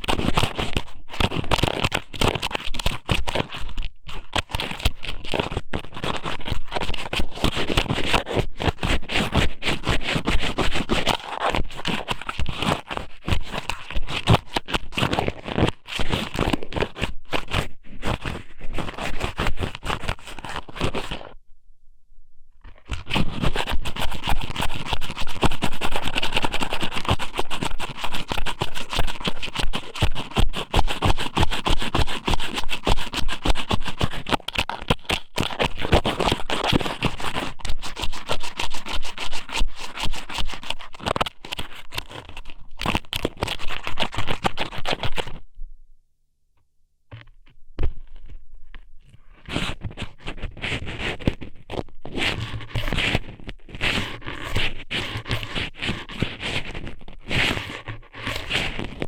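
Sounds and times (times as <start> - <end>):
wet crackling scrape on microphone: 0.0 - 21.4, 22.6 - 45.5, 47.1 - 59.0.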